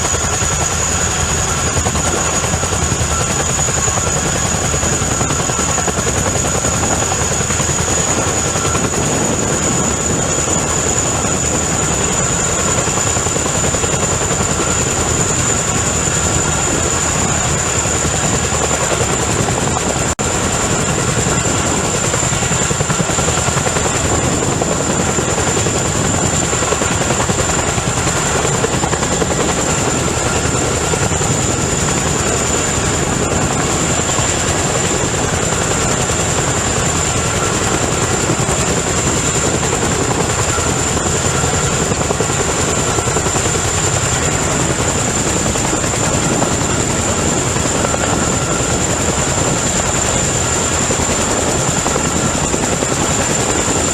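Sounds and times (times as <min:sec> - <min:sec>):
helicopter rotor beat: 0:00.0 - 0:53.9
high turbine whine: 0:00.0 - 0:53.9.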